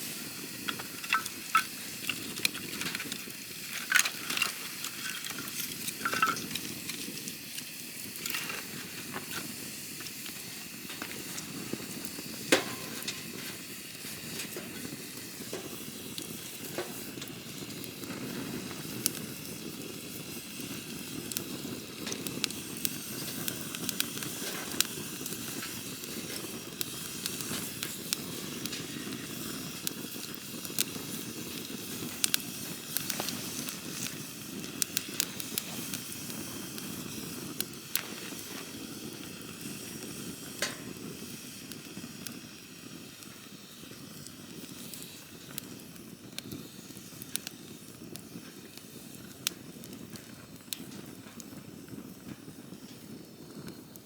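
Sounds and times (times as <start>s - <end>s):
campfire burning: 0.0s - 54.0s
fire crackles and pops: 0.0s - 54.0s.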